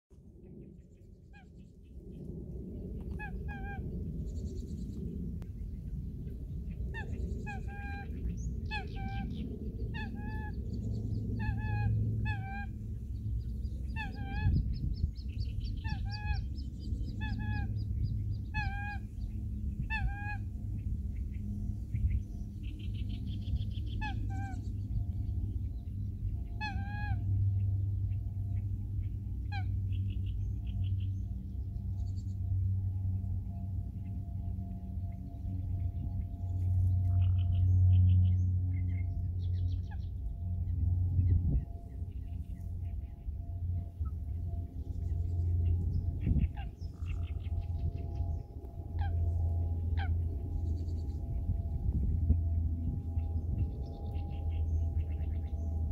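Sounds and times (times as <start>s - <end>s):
low wind rumble: 0.1s - 55.9s.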